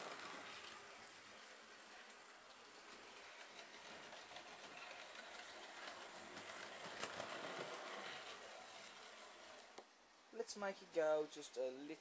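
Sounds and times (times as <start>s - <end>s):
model train motor whirr: 0.0s - 9.9s.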